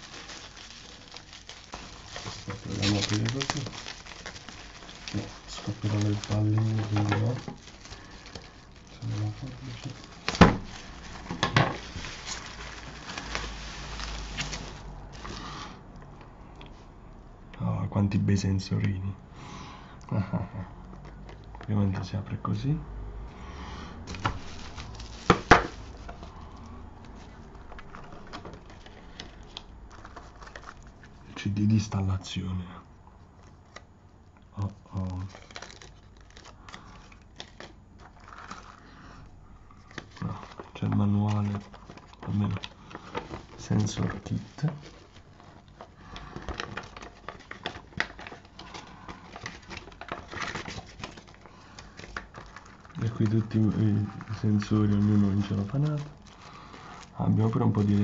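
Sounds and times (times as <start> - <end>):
plastic and paper rustling: 0.0 - 15.8, 24.0 - 58.0.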